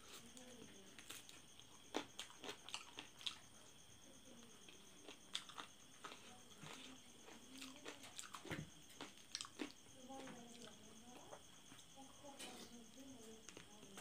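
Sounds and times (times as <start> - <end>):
faint chewing with clicks: 0.0 - 14.0.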